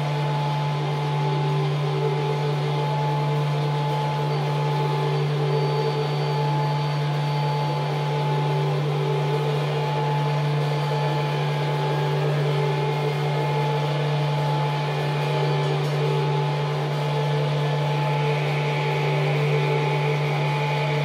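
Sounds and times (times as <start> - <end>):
ambient drone music: 0.0 - 21.0.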